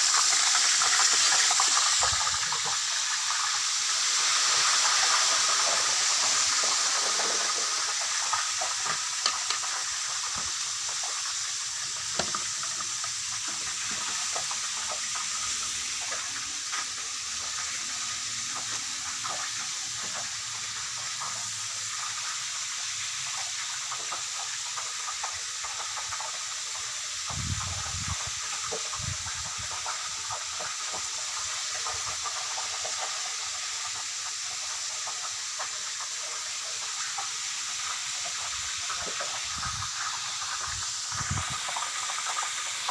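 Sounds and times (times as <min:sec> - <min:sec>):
oil sizzling with pops: 0:00.0 - 0:42.9.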